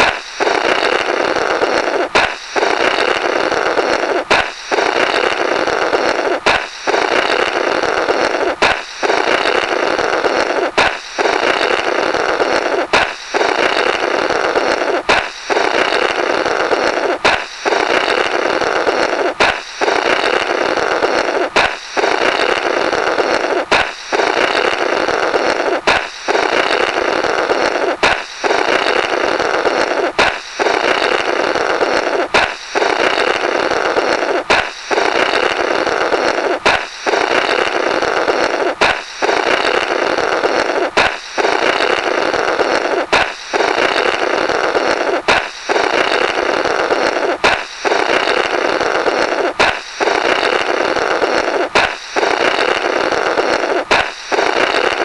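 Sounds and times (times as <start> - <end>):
balloon popping: 0.0 - 55.0
raspberry flutter through rubber: 0.0 - 55.0.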